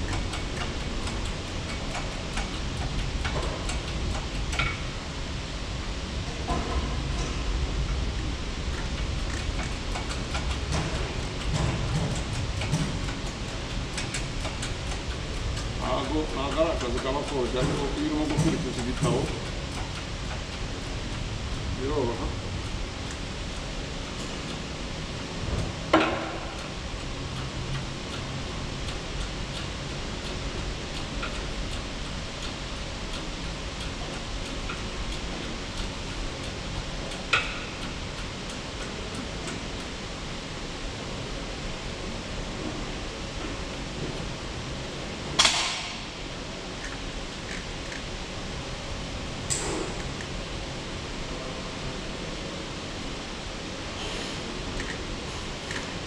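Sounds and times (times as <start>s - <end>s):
workshop background noise: 6.0s - 56.0s.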